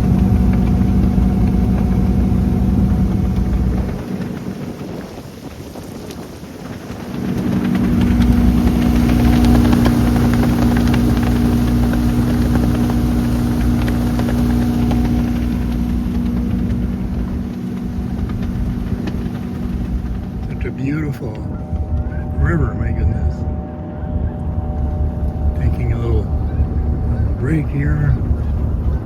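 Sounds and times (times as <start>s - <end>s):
motorboat engine running: 0.0s - 29.0s
rushing water noise: 0.0s - 29.0s.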